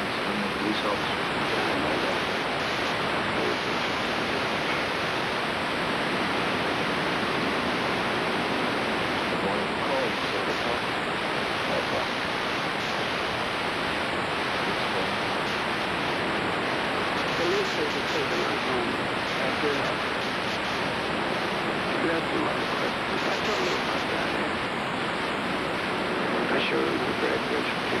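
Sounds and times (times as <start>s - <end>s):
videotape static hiss: 0.0s - 28.0s.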